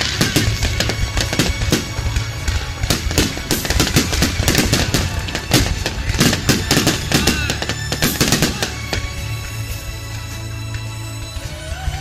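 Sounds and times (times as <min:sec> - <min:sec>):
fireworks bursting: 0:00.0 - 0:11.4
music playing: 0:00.0 - 0:12.0.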